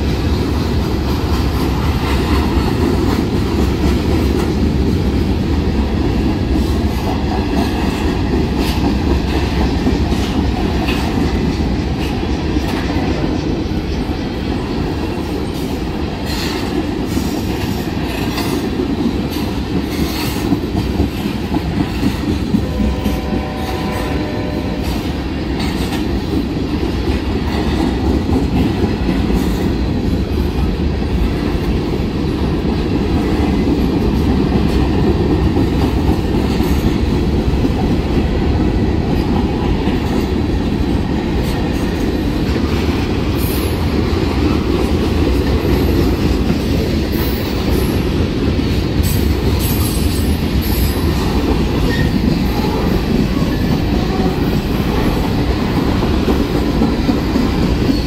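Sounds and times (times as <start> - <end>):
freight cars rumbling on rails: 0.0 - 58.0.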